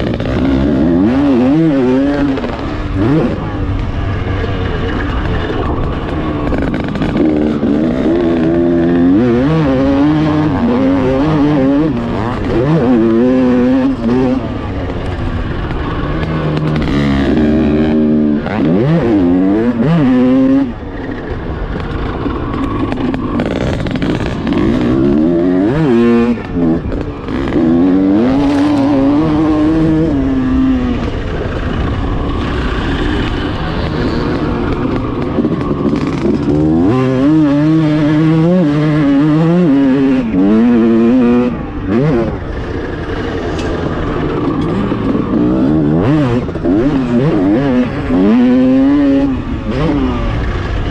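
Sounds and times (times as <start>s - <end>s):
motocross engine revving: 0.0s - 50.9s.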